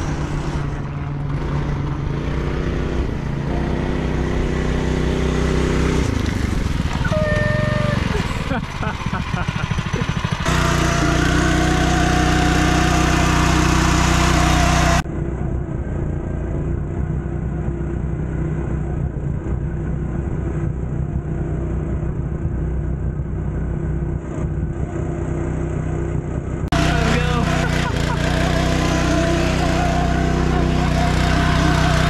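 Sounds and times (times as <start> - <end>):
go-kart engine running: 0.0 - 32.0.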